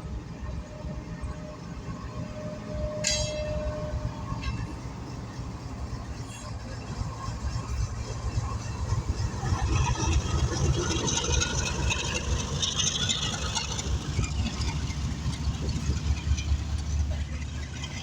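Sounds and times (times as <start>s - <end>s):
heavy engine rumbling: 0.0s - 18.0s
rattling hissing clatter: 3.0s - 18.0s.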